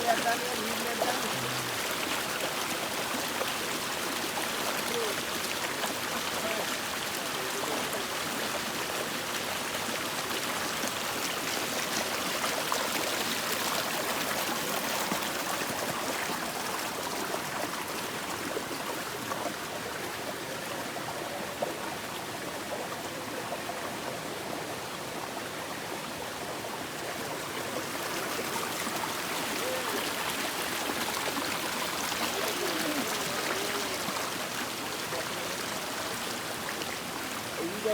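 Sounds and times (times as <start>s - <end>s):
stream flowing: 0.0s - 37.9s.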